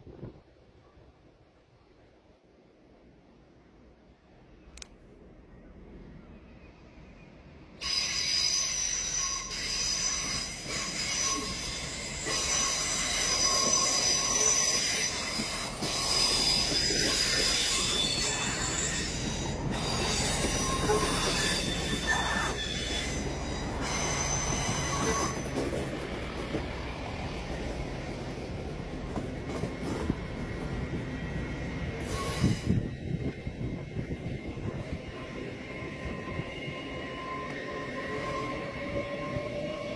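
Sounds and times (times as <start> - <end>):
train wheels squealing on rails: 5.4 - 39.9
train rumble: 7.5 - 39.9.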